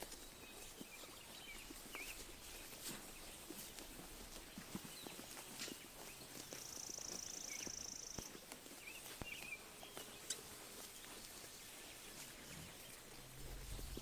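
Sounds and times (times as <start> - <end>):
sheep grazing ticks: 0.0 - 14.0.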